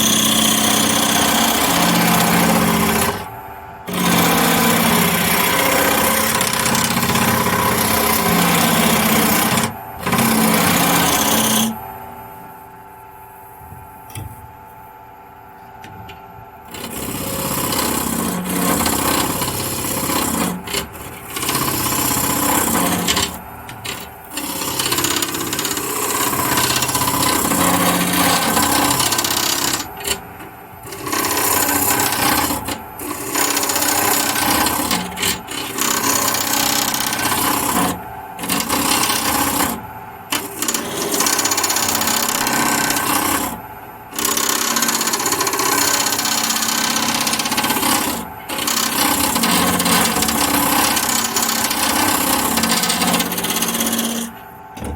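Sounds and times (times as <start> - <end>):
turning tool scraping wood: 0.0 - 3.3, 3.9 - 11.8, 16.7 - 54.9
lathe running hum: 0.0 - 54.9.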